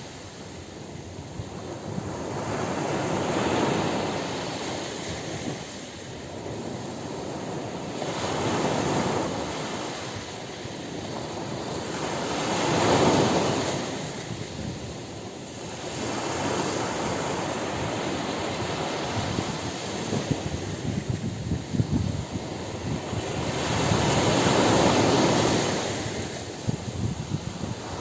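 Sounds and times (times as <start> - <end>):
ocean surf washing on beach: 0.0 - 28.0.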